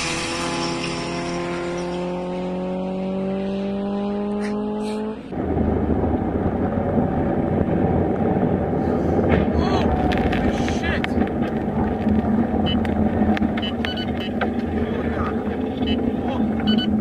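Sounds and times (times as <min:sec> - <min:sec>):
car engine at high revs: 0:00.0 - 0:17.0
road and wind noise: 0:00.0 - 0:17.0.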